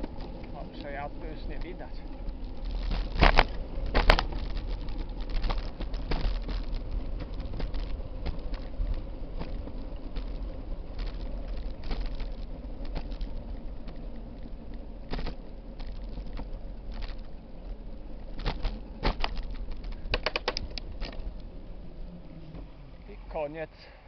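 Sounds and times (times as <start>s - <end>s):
bicycle clicks and knocks over bumps: 0.0s - 22.8s
bicycle rolling rumble and rattle: 0.0s - 23.7s.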